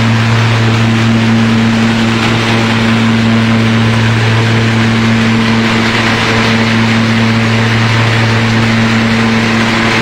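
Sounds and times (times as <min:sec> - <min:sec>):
dense rushing noise: 0:00.0 - 0:10.0
thresher machine humming: 0:00.0 - 0:10.0.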